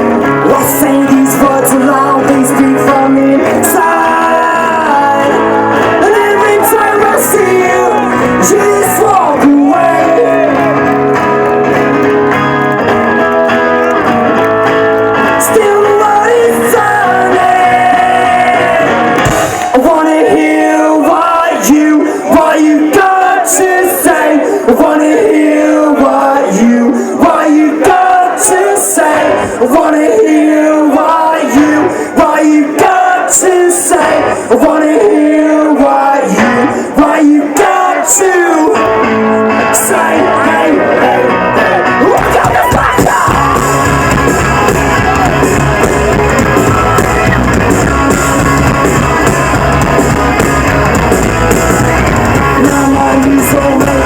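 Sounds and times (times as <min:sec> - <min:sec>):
person singing: 0:00.0 - 0:11.6, 0:15.1 - 0:54.0
rock band playing live: 0:00.0 - 0:24.9, 0:31.6 - 0:54.0.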